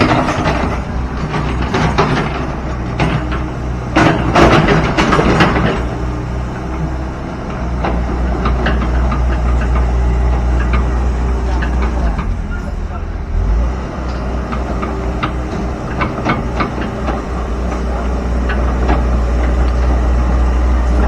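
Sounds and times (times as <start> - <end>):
loud clattering knocks: 0.0 - 12.8, 14.1 - 21.0
diesel engine idling: 0.0 - 21.0.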